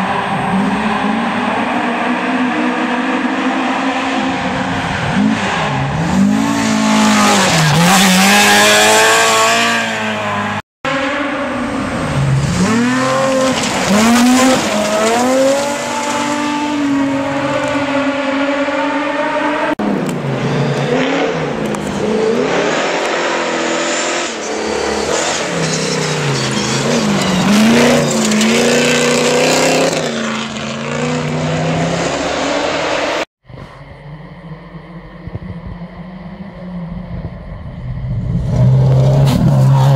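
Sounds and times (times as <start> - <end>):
gravel and tyre noise: 0.0 - 39.9
rally car engines revving: 0.0 - 39.9.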